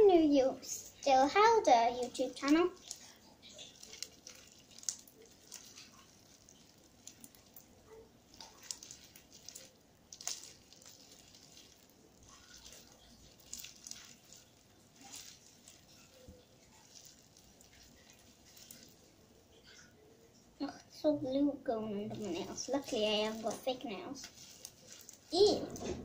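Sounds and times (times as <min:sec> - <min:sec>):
slime squelching when kneaded: 0:00.0 - 0:26.0.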